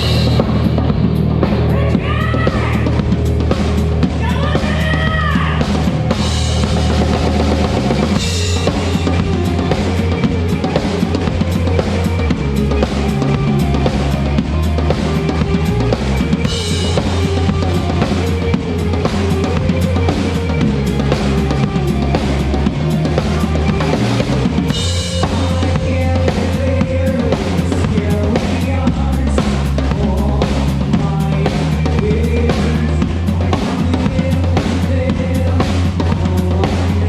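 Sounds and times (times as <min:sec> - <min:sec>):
drum hits: 0:00.0 - 0:37.0
held bass notes: 0:00.0 - 0:37.0
live band playing: 0:00.0 - 0:37.0.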